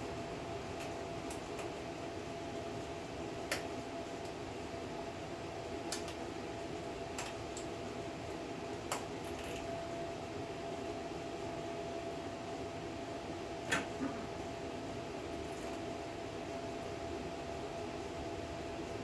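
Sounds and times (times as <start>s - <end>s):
fan-like background hum: 0.0s - 19.0s.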